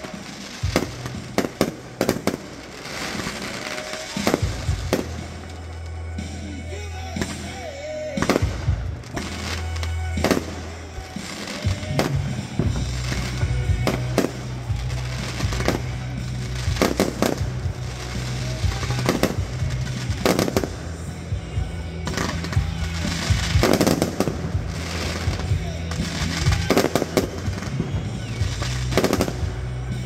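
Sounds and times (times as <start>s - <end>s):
low music: 0.0s - 30.0s.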